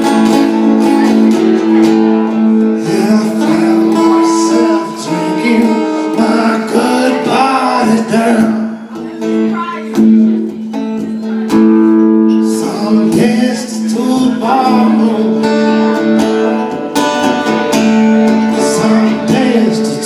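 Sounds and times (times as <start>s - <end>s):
acoustic blues guitar: 0.0s - 20.0s
person singing: 0.0s - 20.0s.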